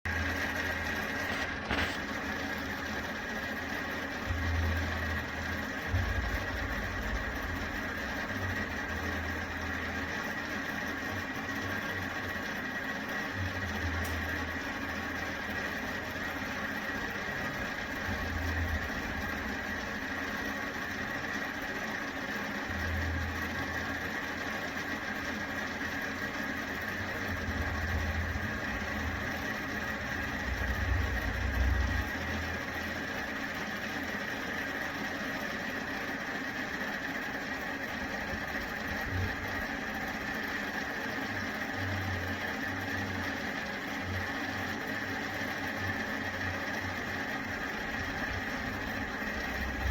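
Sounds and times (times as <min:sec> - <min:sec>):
heater fan droning: 0:00.0 - 0:49.9.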